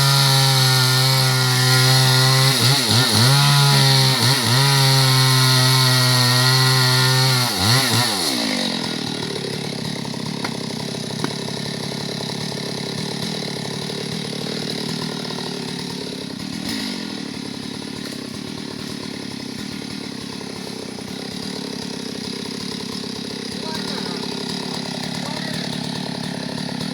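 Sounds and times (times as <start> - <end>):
chainsaw running: 0.0 - 26.9.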